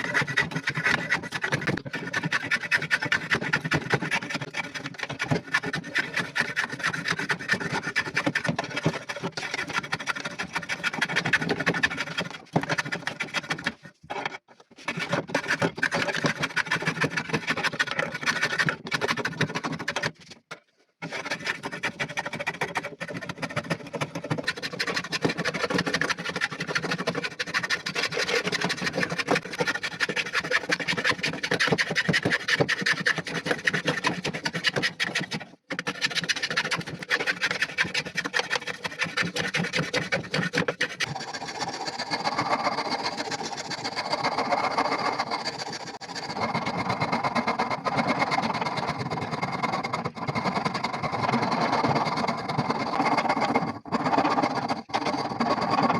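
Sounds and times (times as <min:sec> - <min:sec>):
file rasping on metal: 0:00.0 - 0:20.2, 0:21.0 - 0:55.9.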